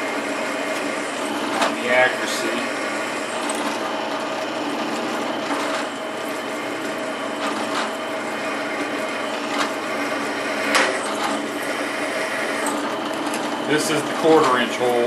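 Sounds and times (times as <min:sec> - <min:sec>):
drill bit scraping steel: 0:00.0 - 0:15.0
drill press motor hum: 0:00.0 - 0:15.0.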